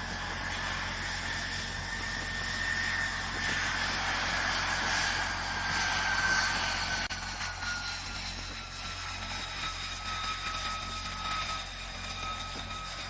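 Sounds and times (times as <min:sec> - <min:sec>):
jet engine whining: 0:00.0 - 0:13.0.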